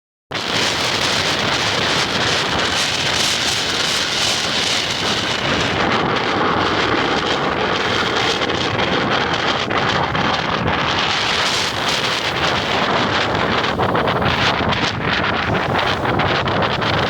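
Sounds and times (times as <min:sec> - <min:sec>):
strong wind on microphone: 0:00.3 - 0:17.0.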